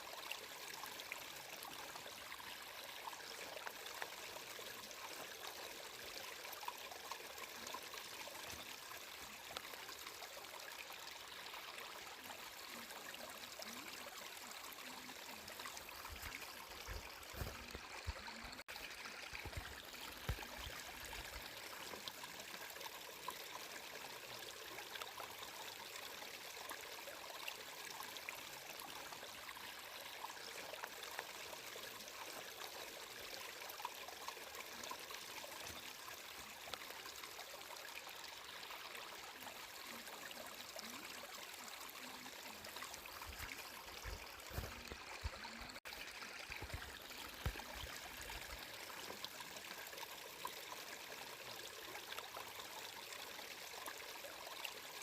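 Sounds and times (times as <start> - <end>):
stream of water flowing: 0.0 - 55.0.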